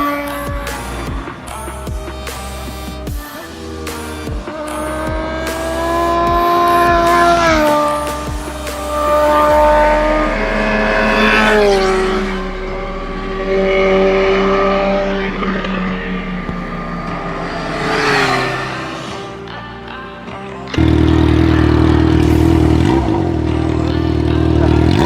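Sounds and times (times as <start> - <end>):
motorcycle engine revving high: 0.0 - 20.1, 20.7 - 25.0.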